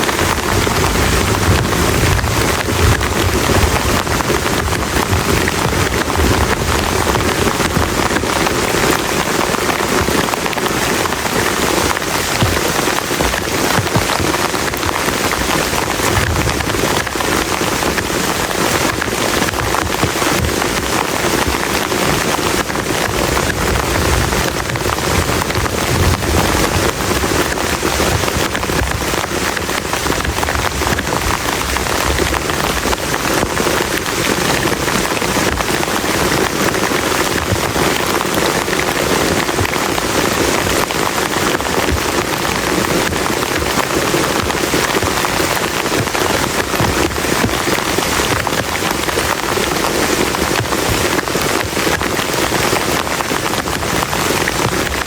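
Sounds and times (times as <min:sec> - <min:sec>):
heavy rain on a shelter: 0:00.0 - 0:55.0.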